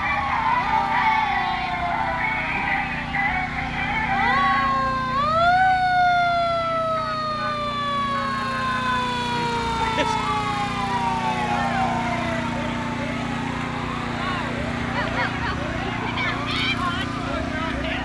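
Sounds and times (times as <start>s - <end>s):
fire truck siren: 0.0s - 18.0s.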